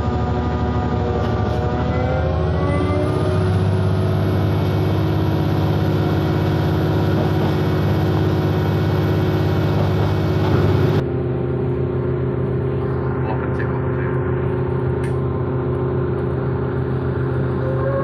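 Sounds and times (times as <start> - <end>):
railcar diesel engine hum: 0.0 - 18.0.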